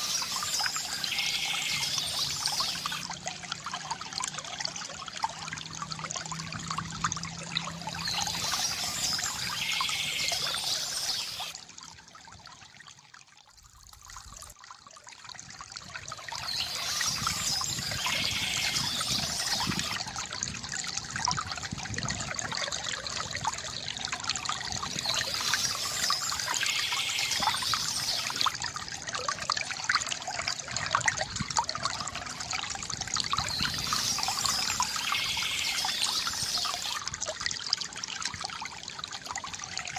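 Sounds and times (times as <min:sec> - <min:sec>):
water trickling from fountain spout: 0:00.0 - 0:39.9.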